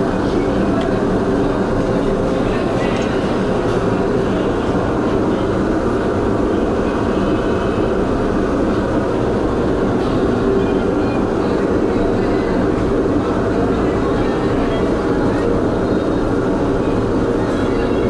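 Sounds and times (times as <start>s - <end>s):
loud rumbling background noise: 0.0s - 18.0s.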